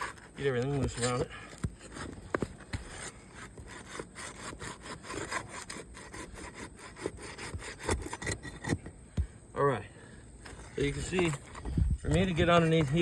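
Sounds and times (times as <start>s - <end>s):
pry tool scraping roof shingles: 0.0s - 9.3s, 10.4s - 13.0s.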